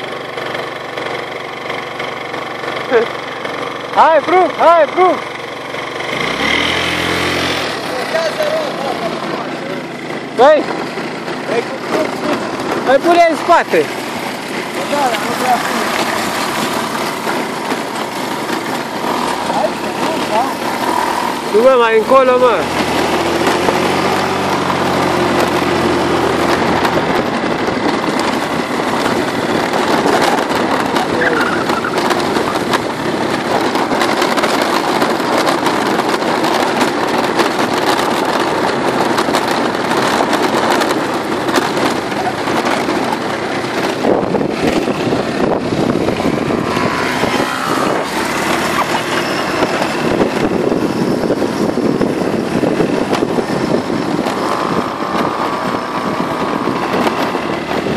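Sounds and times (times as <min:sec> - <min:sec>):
moped engine running: 0:00.0 - 0:57.9
loud rushing noise: 0:06.1 - 0:57.9.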